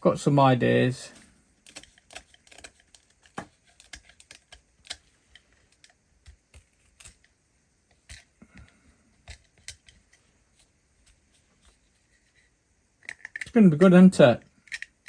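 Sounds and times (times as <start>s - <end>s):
plastic parts clicking and tapping: 1.6s - 15.0s.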